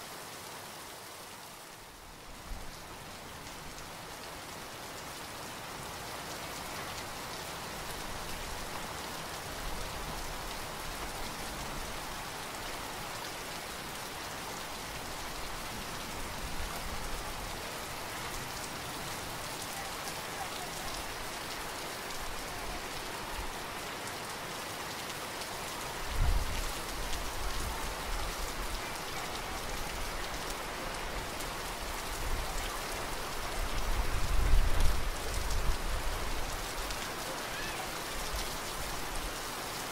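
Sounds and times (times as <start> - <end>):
heavy rain on flooded ground: 0.0 - 39.9.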